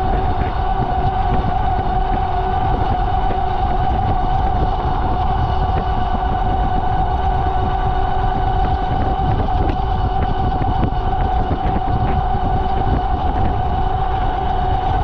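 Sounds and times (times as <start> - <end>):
electric bike motor whine: 0.0 - 15.0
wind rushing over microphone: 0.0 - 15.0.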